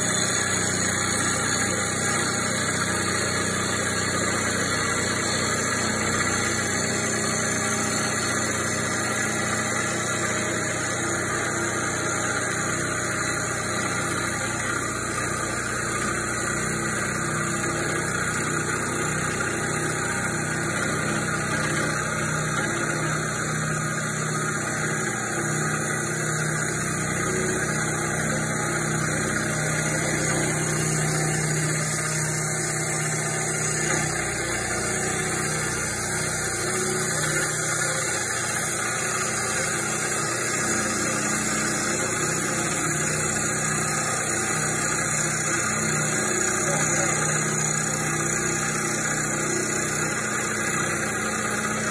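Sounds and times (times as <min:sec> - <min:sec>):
cutter squealing: 0:00.0 - 0:51.9
milling machine cutting metal: 0:00.0 - 0:51.9.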